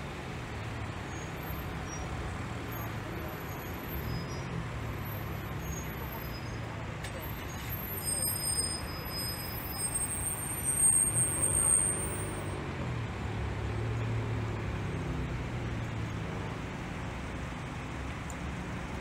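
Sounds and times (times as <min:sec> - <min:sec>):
traffic engine rumble: 0:00.0 - 0:19.0.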